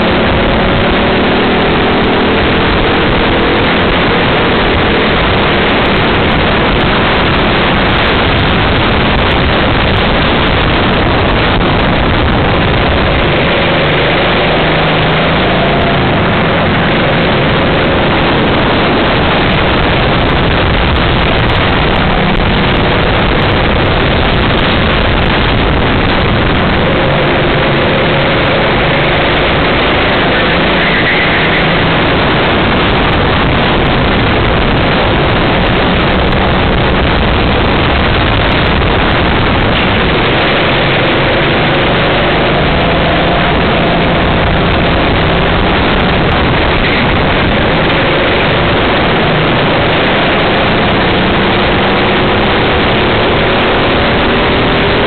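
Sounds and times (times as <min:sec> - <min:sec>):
kart engine running: 0:00.0 - 0:55.0
rush of wind noise: 0:00.0 - 0:55.0.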